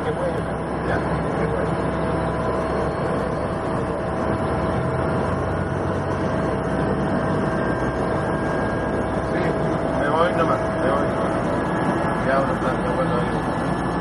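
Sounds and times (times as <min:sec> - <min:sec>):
constant whine: 0:00.0 - 0:14.0
turboprop engine drone: 0:00.0 - 0:14.0.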